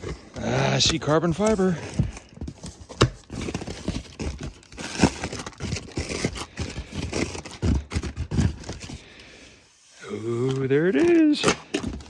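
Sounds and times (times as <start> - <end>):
packaging crinkling and scraping: 0.0 - 12.0.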